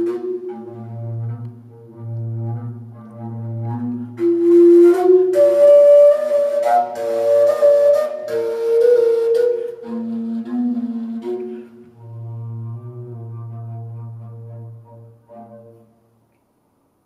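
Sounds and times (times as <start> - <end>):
flute playing long notes: 0.0 - 16.0.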